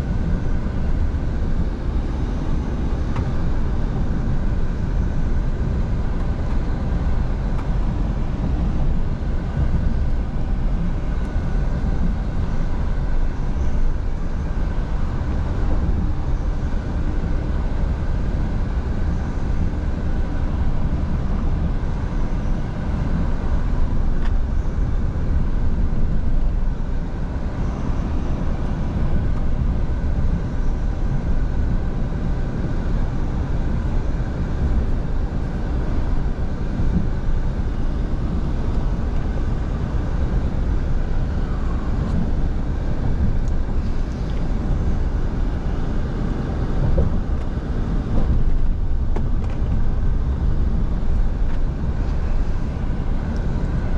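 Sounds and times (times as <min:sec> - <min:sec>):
road noise: 0:00.0 - 0:53.9
truck engine rumble: 0:00.0 - 0:53.9.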